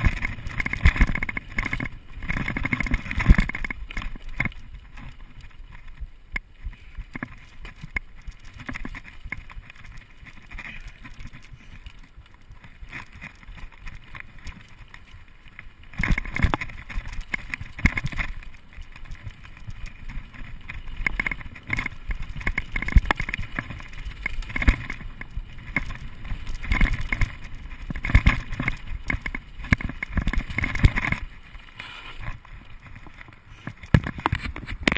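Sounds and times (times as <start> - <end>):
mountain bike rattling over dirt trail: 0.0 - 34.9.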